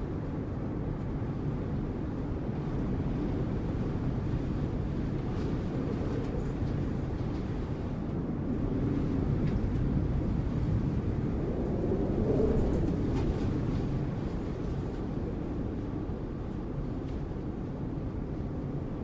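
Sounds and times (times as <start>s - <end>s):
strong wind blowing in gusts: 0.0s - 19.0s.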